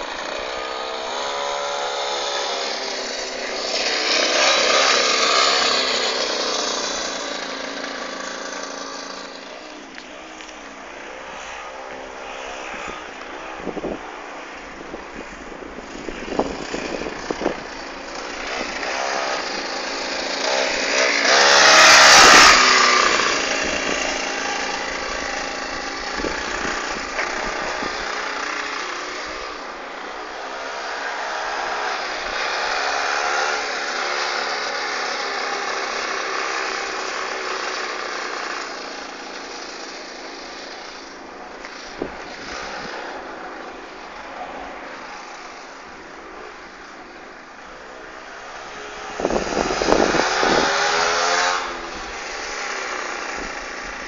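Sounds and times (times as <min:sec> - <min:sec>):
pocket bike engine revving: 0:00.0 - 0:54.0.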